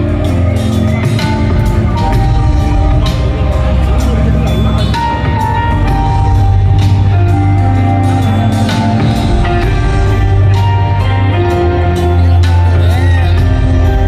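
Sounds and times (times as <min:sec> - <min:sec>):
heavy bass line: 0:00.0 - 0:14.0.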